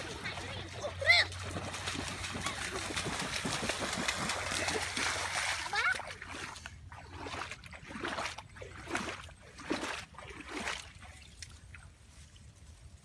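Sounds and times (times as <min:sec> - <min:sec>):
feet squelching in mud: 0:00.0 - 0:11.8.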